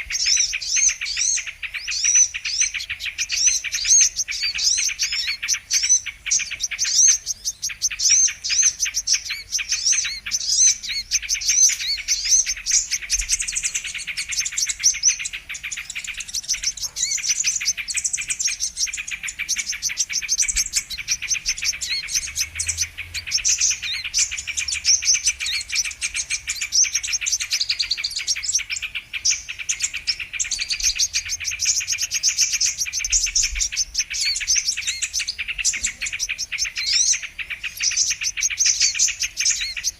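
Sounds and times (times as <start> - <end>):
sunbirds chirping and twittering: 0.0 - 39.9.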